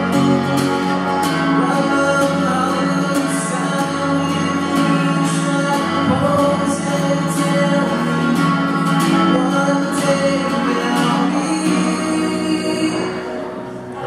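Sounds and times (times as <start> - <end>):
acoustic guitar strumming: 0.0 - 14.0
man singing into a microphone: 1.1 - 14.0.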